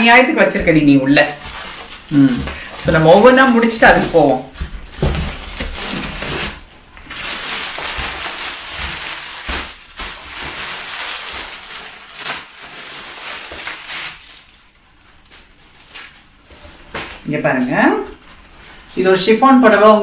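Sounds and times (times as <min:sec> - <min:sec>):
plastic wrapping crinkling: 0:00.4 - 0:17.3.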